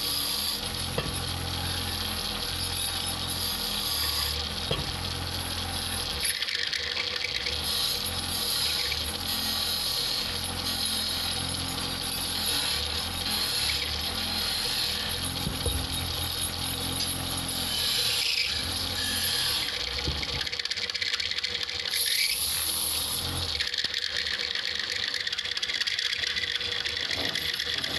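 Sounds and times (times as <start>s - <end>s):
lathe running: 0.0s - 27.9s
tool cutting spinning wood: 0.0s - 27.9s.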